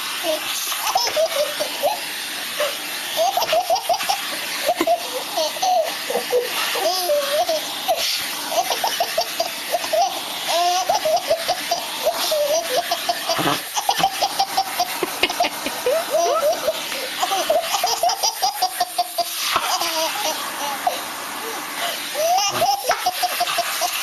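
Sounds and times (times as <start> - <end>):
vacuum cleaner running: 0.0 - 24.0
baby laughing: 0.3 - 24.0.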